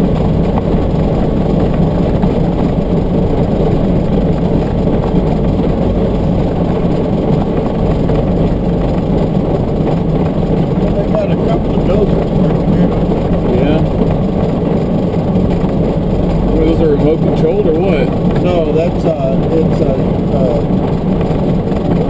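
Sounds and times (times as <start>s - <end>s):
vehicle rumbling on dirt road: 0.0s - 22.0s.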